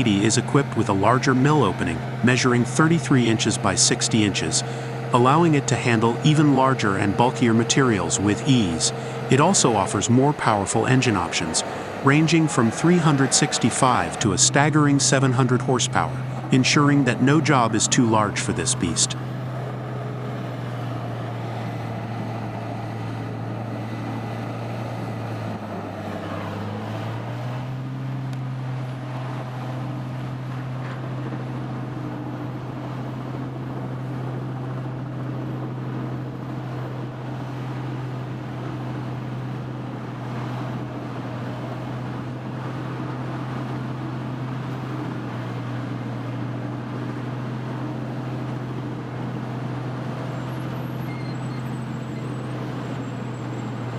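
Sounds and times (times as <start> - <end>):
wood grinder engine running: 0.0 - 53.9.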